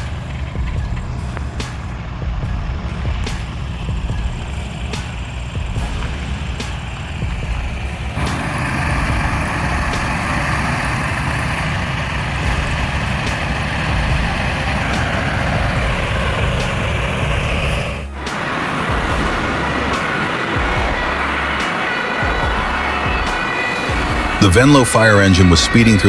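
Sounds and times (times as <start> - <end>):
heavy truck engine rumble: 0.0 - 26.0.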